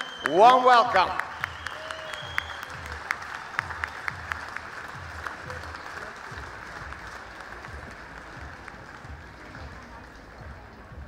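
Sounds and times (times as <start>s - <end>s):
sharp close claps: 0.0s - 10.4s
audience applauding: 0.0s - 10.7s.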